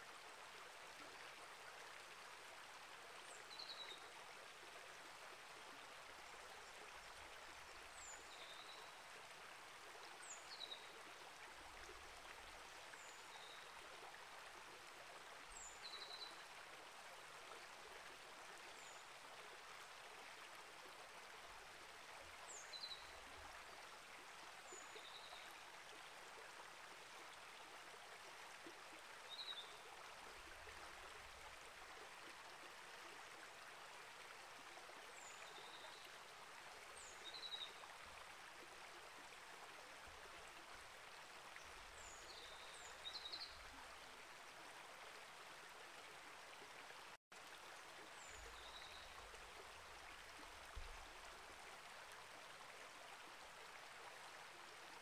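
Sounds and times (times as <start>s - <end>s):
creek flowing over rocks: 0.0s - 55.0s.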